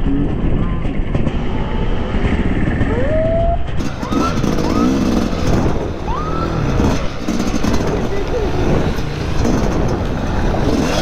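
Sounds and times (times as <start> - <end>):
dirt bike engine revving: 1.2 - 11.0.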